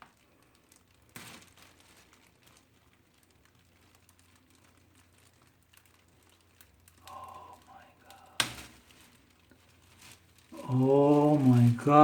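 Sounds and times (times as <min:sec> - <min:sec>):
noisy rustle: 0:00.0 - 0:12.0.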